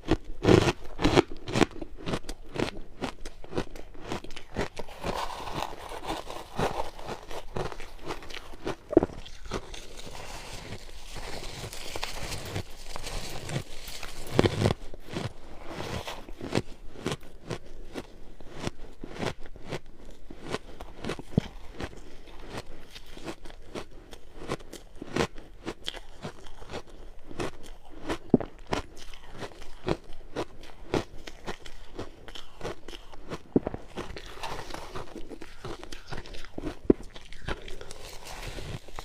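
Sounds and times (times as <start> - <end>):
ice being crunched by teeth: 0.0 - 39.0.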